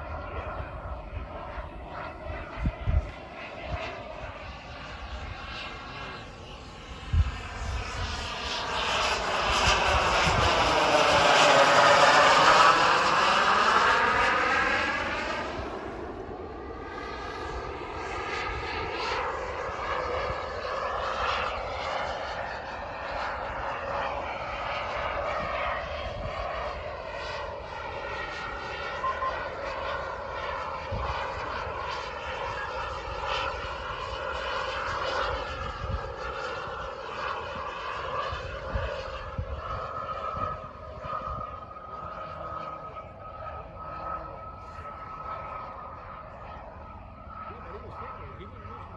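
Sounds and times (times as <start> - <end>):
model jet turbine whine: 0.0 - 48.9.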